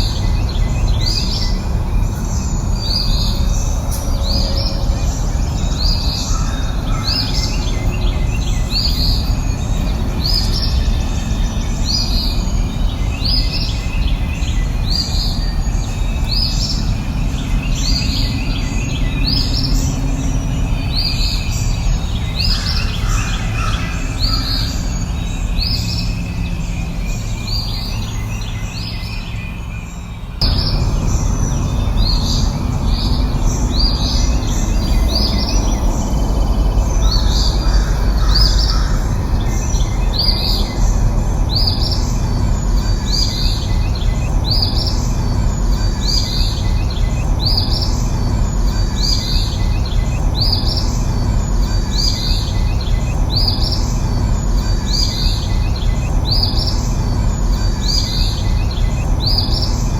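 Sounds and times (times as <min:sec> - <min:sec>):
bird chirping: 0:00.0 - 0:59.9
low outdoor rumble: 0:00.0 - 0:59.9.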